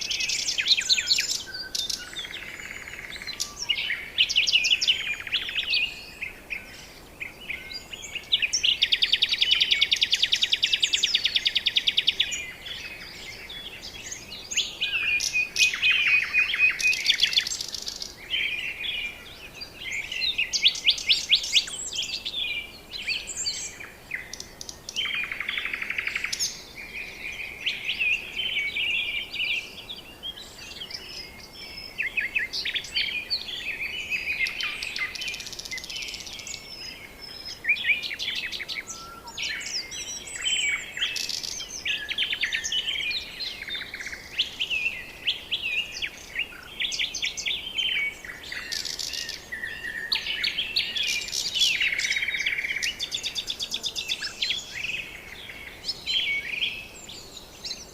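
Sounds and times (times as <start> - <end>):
birds trilling and chirping: 0.0 - 57.9.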